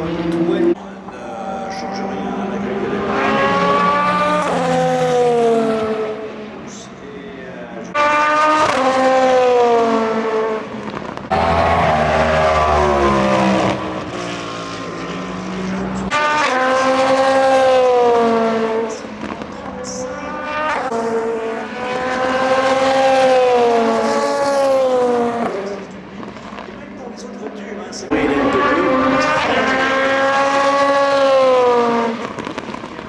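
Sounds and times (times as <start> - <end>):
race cars passing at high revs: 0.0 - 33.0.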